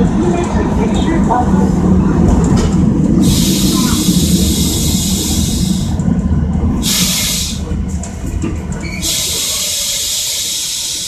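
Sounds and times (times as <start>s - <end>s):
tram rumbling along track: 0.0s - 11.0s.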